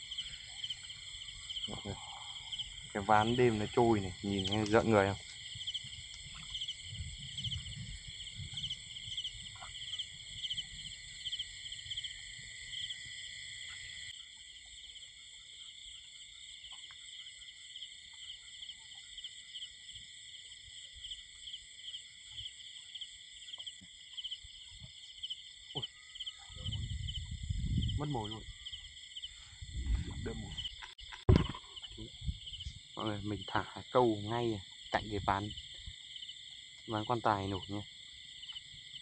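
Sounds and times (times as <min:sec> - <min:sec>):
crickets and insects trilling: 0:00.0 - 0:39.0
pulsing insect chirp: 0:00.0 - 0:39.0.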